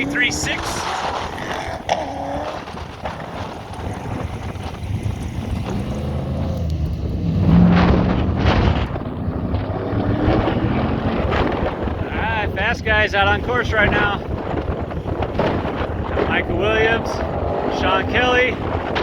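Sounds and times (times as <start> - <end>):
race car engine passing: 0.0 - 13.5, 14.4 - 19.0
wind buffeting microphone: 0.0 - 19.0.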